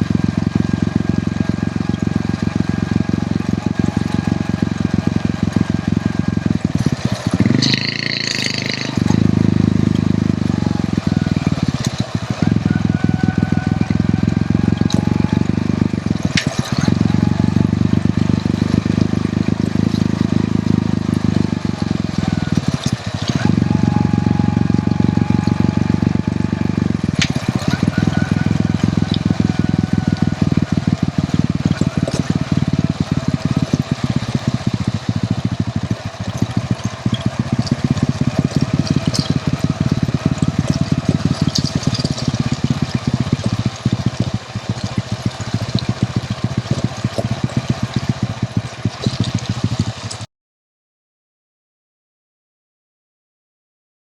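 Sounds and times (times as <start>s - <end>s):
motorcycle engine running: 0.0s - 50.3s.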